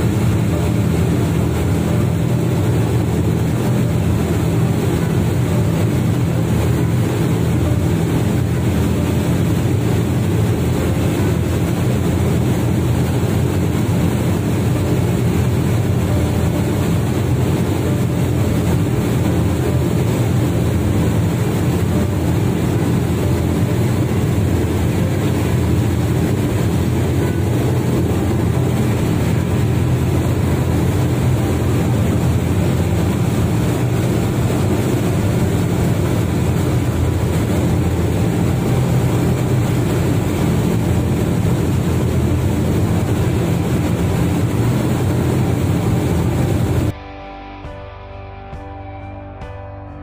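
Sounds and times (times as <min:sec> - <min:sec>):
boat engines droning: 0:00.0 - 0:46.9
rush of foaming wake: 0:00.0 - 0:46.9.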